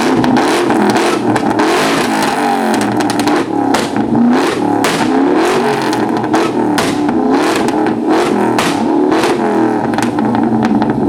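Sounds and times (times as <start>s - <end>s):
car engine revving hard: 0.0s - 11.0s
exhaust pops: 0.0s - 11.0s.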